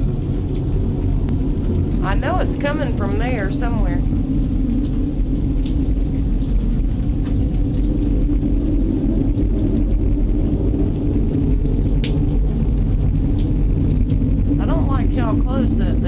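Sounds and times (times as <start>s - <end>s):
deep rumble: 0.0s - 16.0s.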